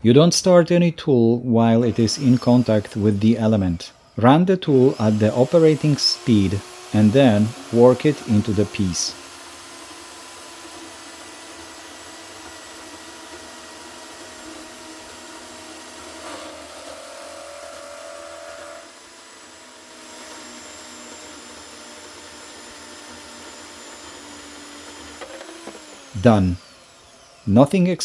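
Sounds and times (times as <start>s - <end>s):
band saw cutting steel: 1.8s - 28.0s.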